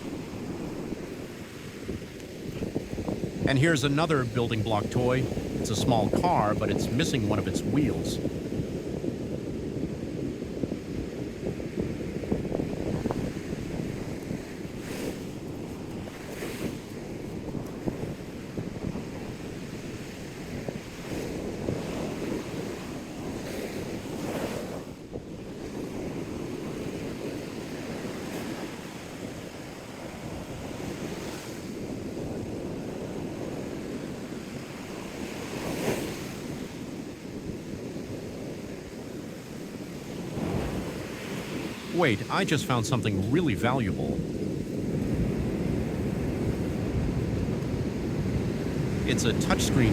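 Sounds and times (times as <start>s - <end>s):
surf washing onto beach: 0.0s - 49.9s
wind rumbling on microphone: 0.0s - 49.9s.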